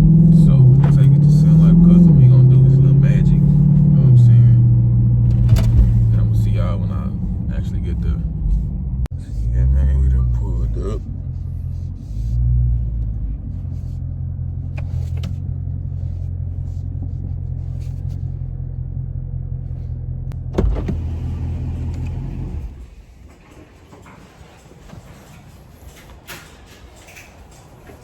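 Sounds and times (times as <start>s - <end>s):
car engine idling: 0.0s - 24.6s.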